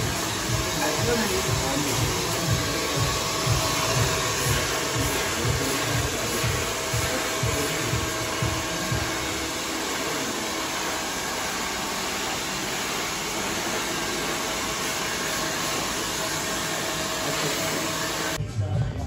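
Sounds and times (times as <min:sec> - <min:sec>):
hair dryer blowing: 0:00.0 - 0:18.4.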